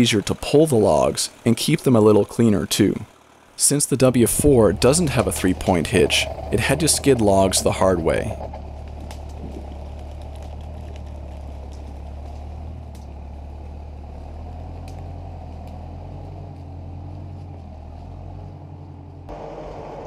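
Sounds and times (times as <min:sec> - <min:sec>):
log skidding along ground: 0:00.0 - 0:19.4
tractor engine running under load: 0:00.0 - 0:20.0.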